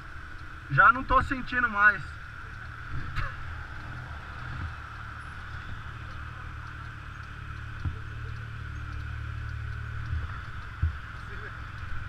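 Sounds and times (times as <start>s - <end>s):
scooter engine rumble: 0.0s - 12.0s.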